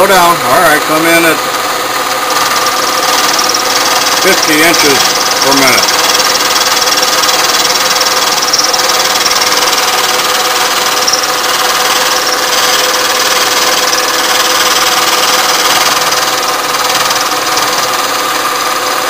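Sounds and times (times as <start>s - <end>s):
milling machine spindle tone: 0.0s - 19.0s.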